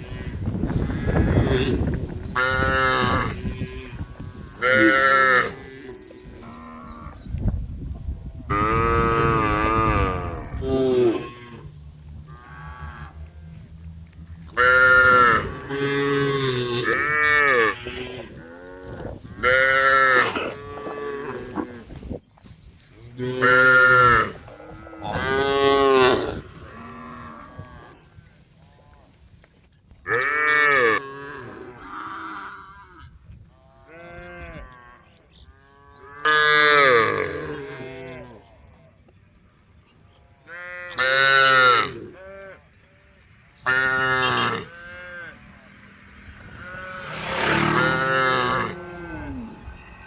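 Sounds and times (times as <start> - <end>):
cows mooing: 0.0 - 7.3, 8.5 - 21.9, 23.2 - 28.1, 30.1 - 38.5, 40.4 - 50.0.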